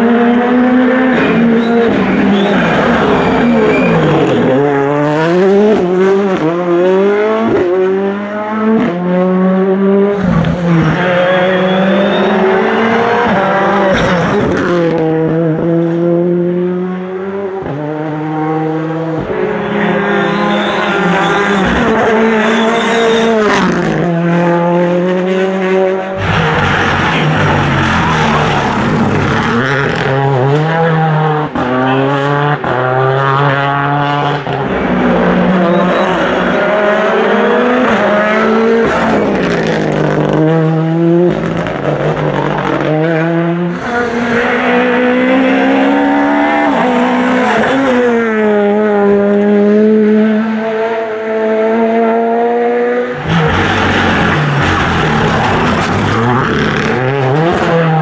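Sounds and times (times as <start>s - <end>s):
rally car engines accelerating: 0.0s - 58.0s.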